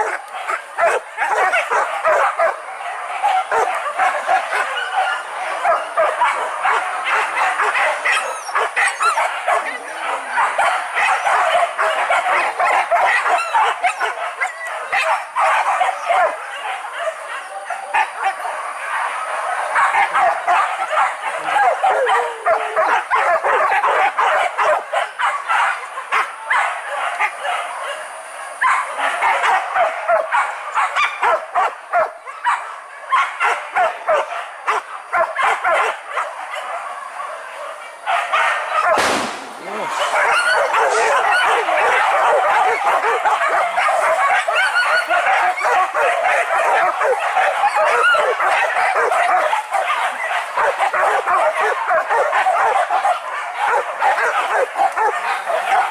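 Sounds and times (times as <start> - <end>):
dogs barking and yelping: 0.0 - 39.0, 39.6 - 55.9.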